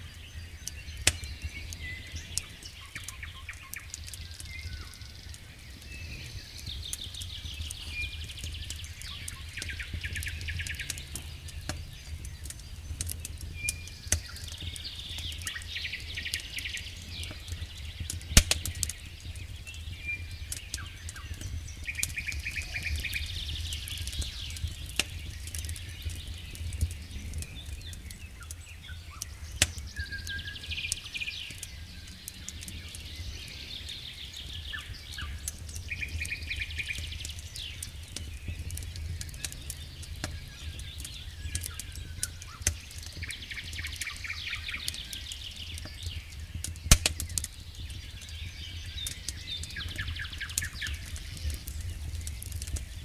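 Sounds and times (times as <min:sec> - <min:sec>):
campfire crackling and popping: 0:00.0 - 0:53.0
small birds chirping: 0:00.0 - 0:53.0.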